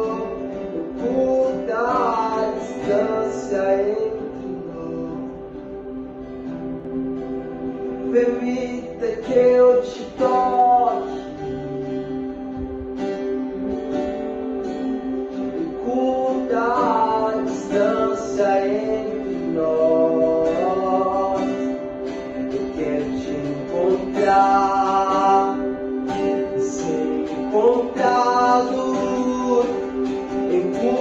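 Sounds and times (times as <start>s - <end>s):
person singing: 0.0s - 6.0s, 8.0s - 14.6s, 15.6s - 31.0s
acoustic guitar chords: 0.0s - 31.0s.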